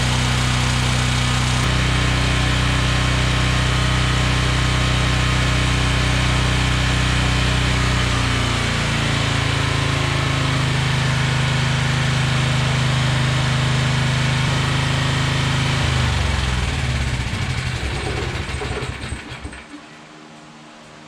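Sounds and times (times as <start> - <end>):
generator engine winding down: 0.0 - 20.1.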